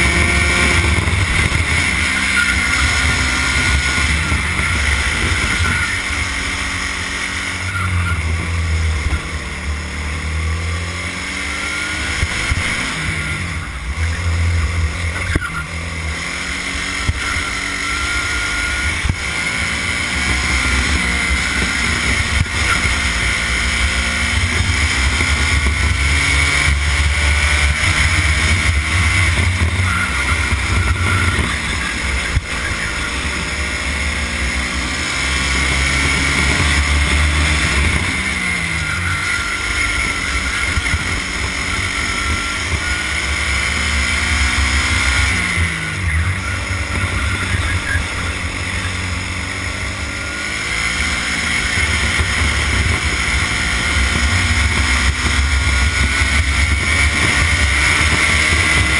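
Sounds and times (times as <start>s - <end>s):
go-kart engine revving: 0.0s - 58.9s.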